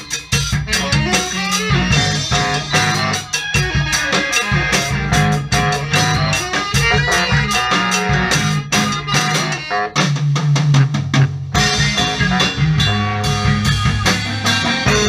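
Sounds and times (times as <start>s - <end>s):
drum kit beat: 0.0s - 15.0s
electric bass line: 0.0s - 15.0s
guitar: 0.0s - 15.0s.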